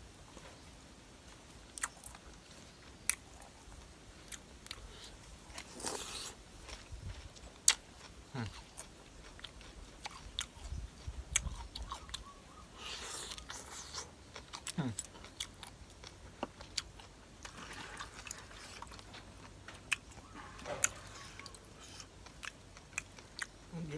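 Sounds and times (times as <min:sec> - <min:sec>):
person chewing with crunches: 0:00.2 - 0:23.9.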